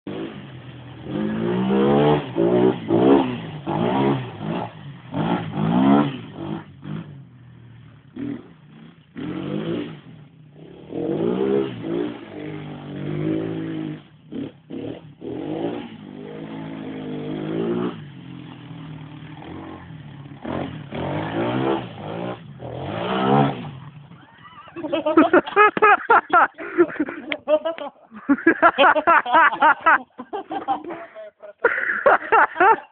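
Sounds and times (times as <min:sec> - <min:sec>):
atv engine revving: 0:00.1 - 0:31.0.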